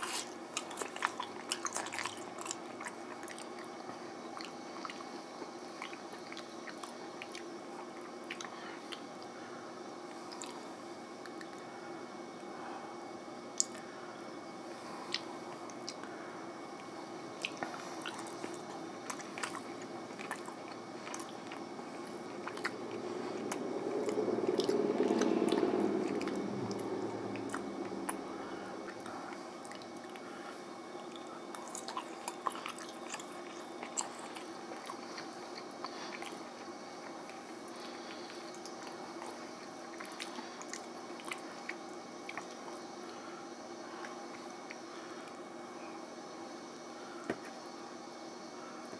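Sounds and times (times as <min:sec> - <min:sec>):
person chewing noodles: 0:00.0 - 0:09.4, 0:10.2 - 0:11.6, 0:16.8 - 0:45.5.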